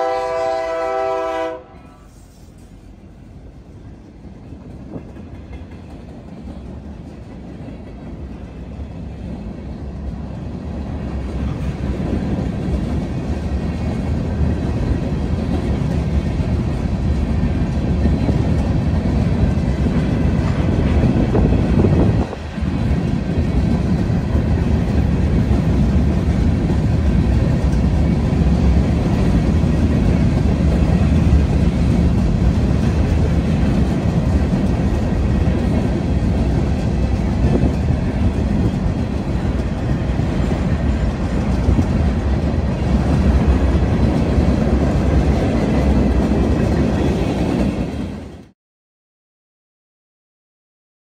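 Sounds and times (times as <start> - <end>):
freight train wheels rumbling on rail: 0.0 - 48.6.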